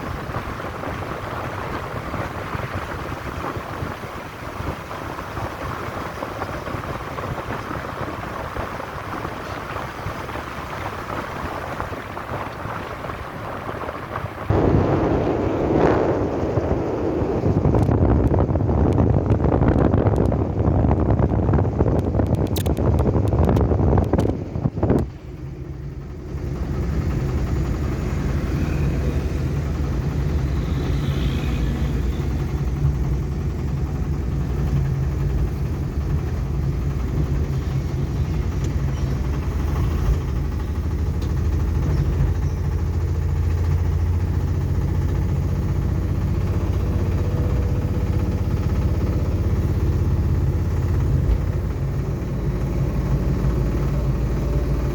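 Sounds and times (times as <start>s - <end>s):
vehicle rumbling: 0.0s - 54.9s
wind buffeting microphone: 0.0s - 54.9s.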